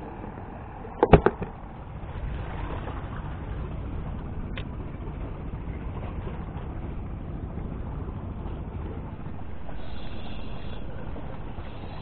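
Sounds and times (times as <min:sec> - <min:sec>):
low sea rumble: 0:00.0 - 0:12.0.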